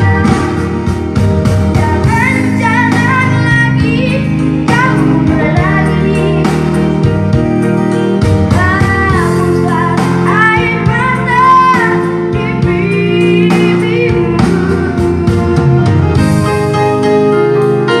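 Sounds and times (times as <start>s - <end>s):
child singing pop ballad: 0.0s - 16.5s
instrumental accompaniment: 0.0s - 18.0s.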